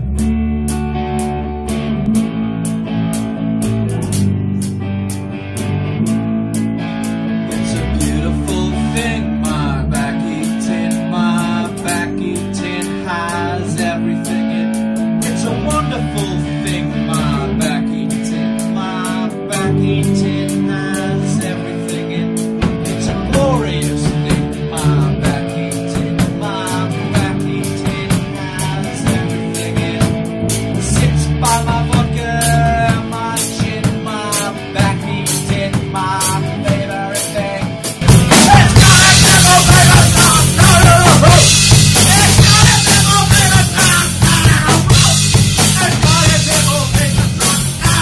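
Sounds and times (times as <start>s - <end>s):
bass line: 0.0s - 48.0s
drums keeping a beat: 0.0s - 48.0s
electric guitar: 0.0s - 48.0s.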